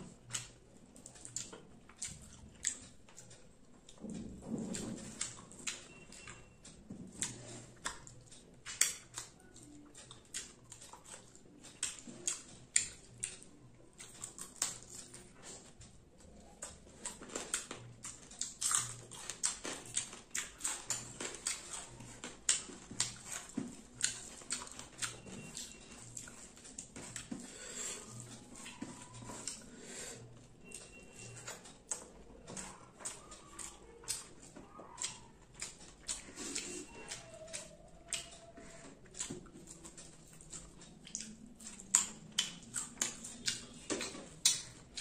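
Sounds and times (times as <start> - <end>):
wet chewing and lip smacking: 0.0 - 45.0.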